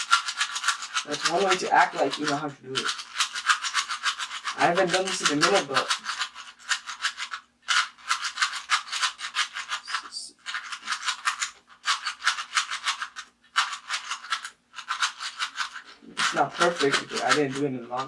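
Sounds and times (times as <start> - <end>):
puzzle cube clicking and rattling: 0.0 - 18.0.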